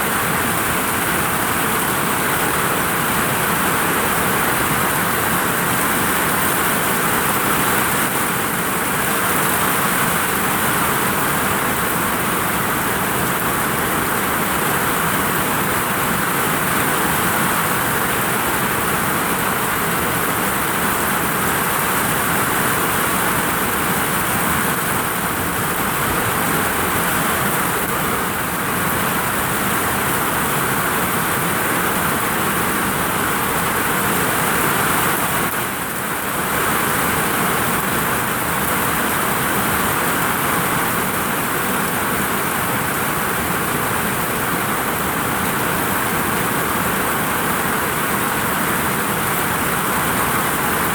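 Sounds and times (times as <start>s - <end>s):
heavy rain on a vinyl roof: 0.0s - 50.9s.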